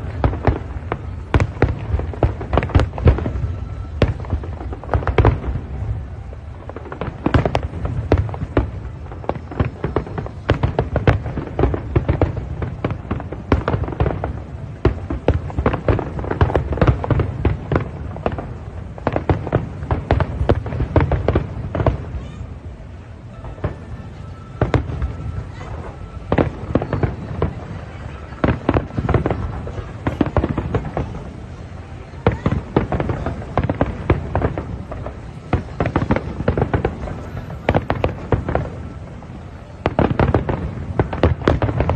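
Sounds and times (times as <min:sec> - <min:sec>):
fireworks bursting with sharp bangs: 0:00.0 - 0:41.9.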